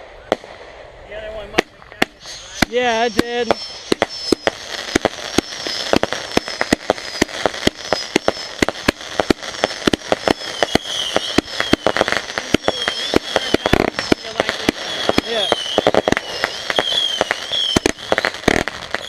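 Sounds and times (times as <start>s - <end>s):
fireworks bangs and crackles: 0.0s - 19.0s
high wavering whistles: 2.2s - 8.8s, 9.5s - 19.0s.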